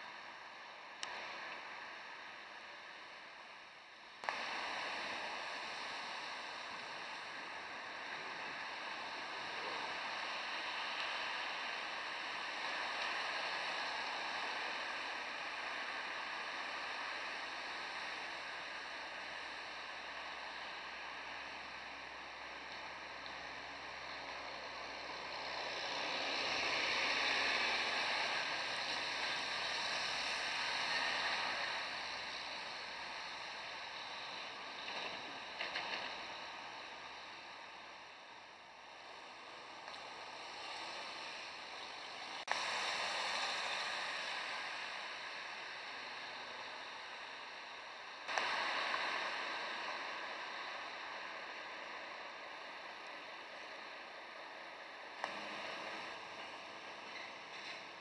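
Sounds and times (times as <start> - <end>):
cars passing on wet road: 4.2 - 58.0.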